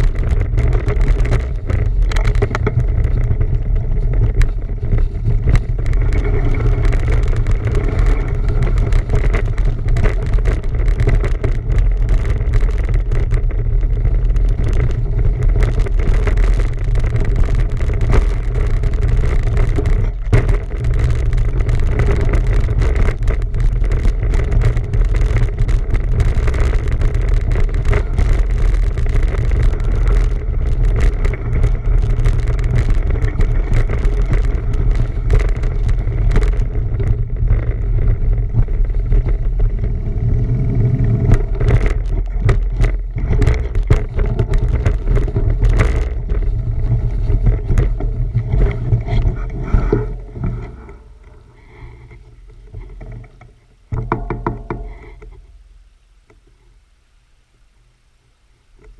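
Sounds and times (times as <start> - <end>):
bicycle rolling noise: 0.0 - 57.1, 57.8 - 58.9.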